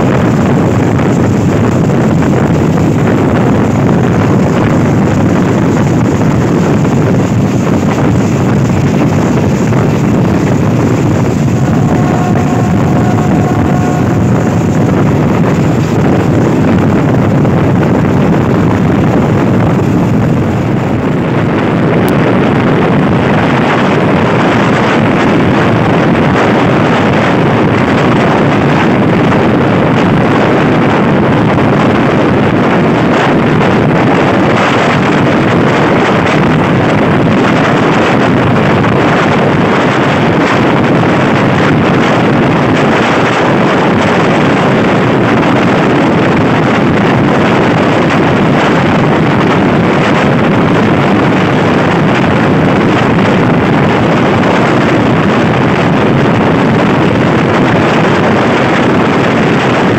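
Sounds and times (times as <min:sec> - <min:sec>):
train wheels rumbling on rails: 0:00.0 - 0:59.9
wind buffeting microphone: 0:00.0 - 0:59.9.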